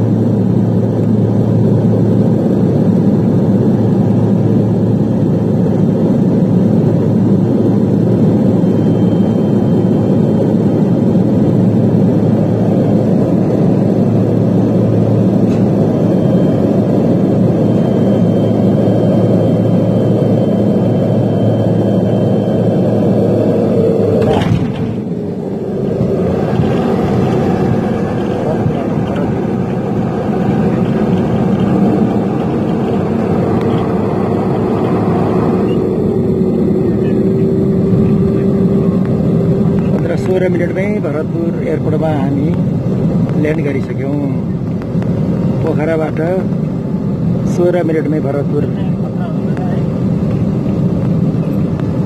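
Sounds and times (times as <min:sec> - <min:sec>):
airliner cabin engine noise: 0:00.0 - 0:52.0.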